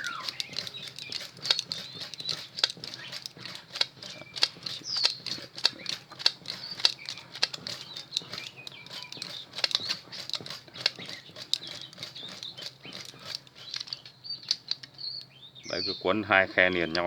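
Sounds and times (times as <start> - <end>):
wire winding ticks and rustling: 0.0 - 17.0.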